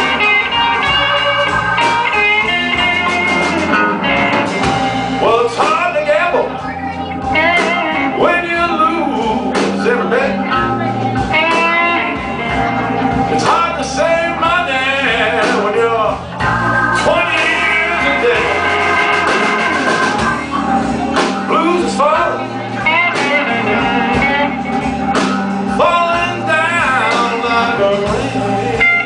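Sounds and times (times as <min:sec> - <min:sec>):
blues band playing live: 0:00.0 - 0:29.0.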